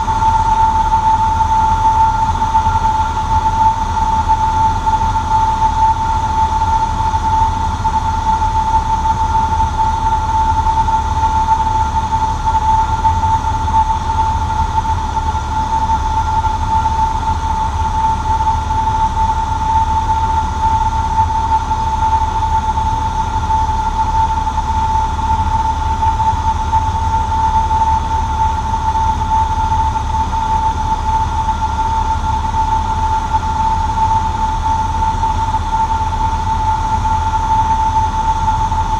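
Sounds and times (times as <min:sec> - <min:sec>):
aircraft engine drone in cabin: 0:00.0 - 0:38.9
high engine whine: 0:00.0 - 0:38.9.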